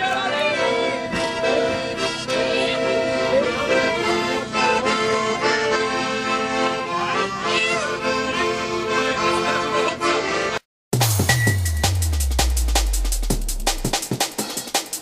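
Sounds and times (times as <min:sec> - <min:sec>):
accordion playing held chords: 0:00.0 - 0:15.0.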